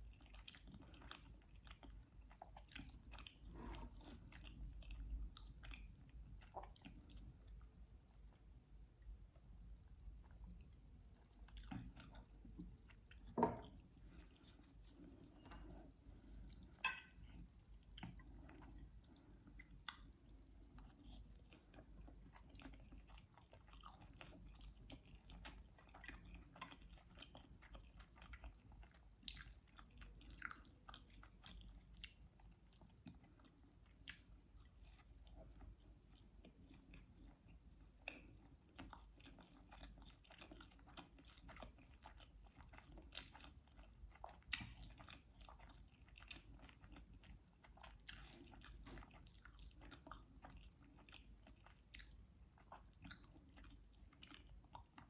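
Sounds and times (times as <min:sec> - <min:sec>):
chewing and biting food: 0:00.0 - 0:07.6, 0:10.2 - 0:55.0.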